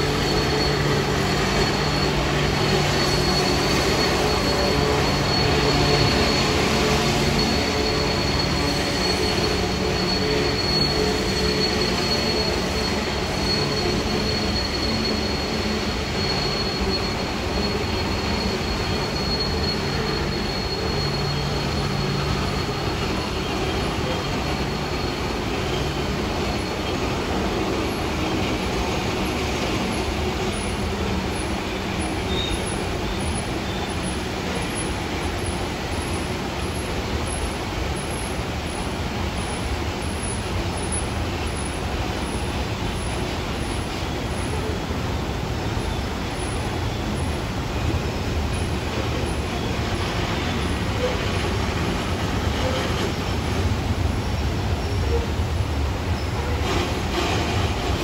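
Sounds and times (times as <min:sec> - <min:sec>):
rumble of wheels on rail: 0:00.0 - 0:58.0
thin high wheel squeal: 0:00.0 - 0:58.0.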